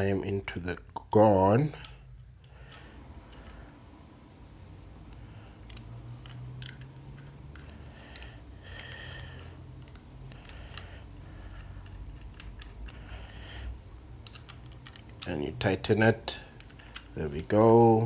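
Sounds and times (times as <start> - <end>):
light metal clicks: 1.6 - 4.0, 4.9 - 17.6.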